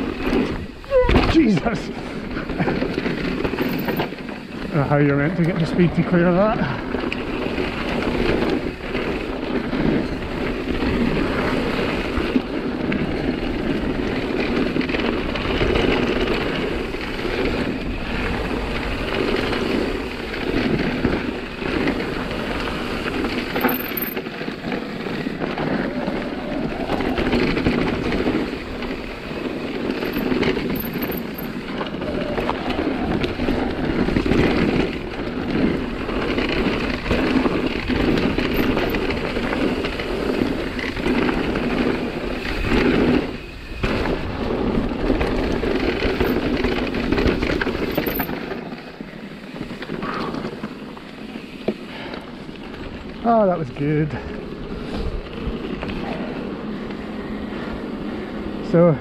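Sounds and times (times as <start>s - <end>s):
bike knocking and rattling: 0.0s - 59.0s
tyres rolling on dirt: 0.0s - 59.0s.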